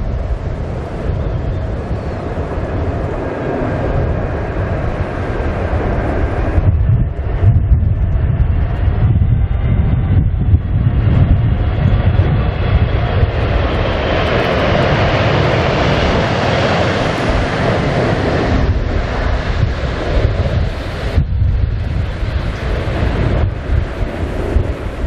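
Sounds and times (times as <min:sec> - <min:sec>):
jet engines roaring: 0:00.0 - 0:25.0
wind buffeting microphone: 0:00.0 - 0:25.0.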